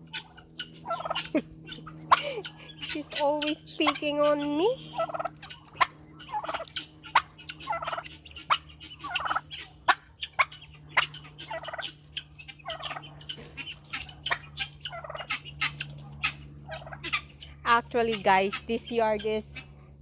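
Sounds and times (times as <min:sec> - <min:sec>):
turkeys calling: 0:00.0 - 0:20.0.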